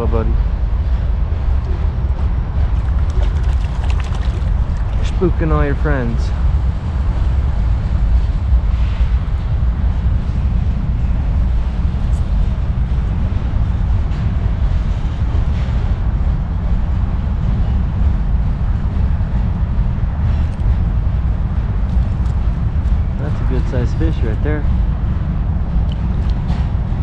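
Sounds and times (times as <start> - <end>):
low rumbling background noise: 0.0 - 27.0.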